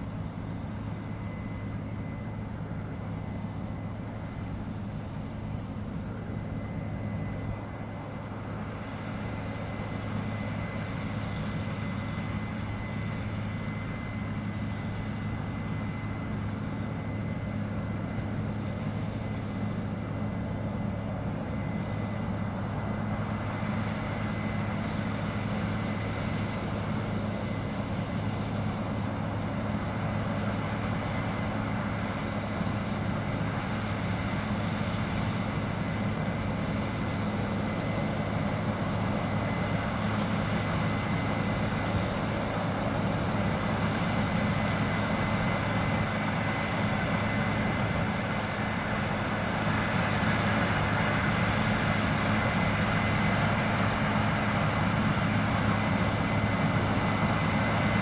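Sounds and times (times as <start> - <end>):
combine harvester drone: 0.0 - 58.0.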